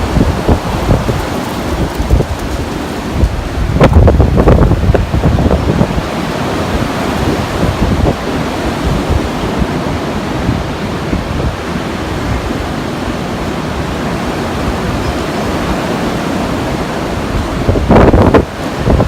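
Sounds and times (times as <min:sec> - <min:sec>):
strong wind rushing: 0:00.0 - 0:19.0
wind buffeting microphone: 0:00.0 - 0:19.0.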